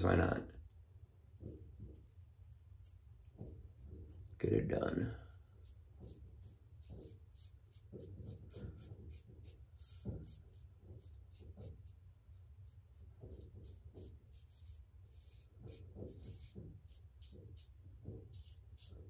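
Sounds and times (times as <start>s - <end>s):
razor scraping stubble: 1.4s - 19.0s.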